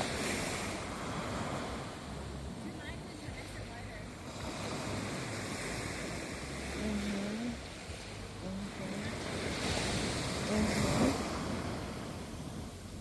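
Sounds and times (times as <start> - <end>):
ocean waves on shore: 0.0 - 13.0
wind on microphone: 0.0 - 13.0.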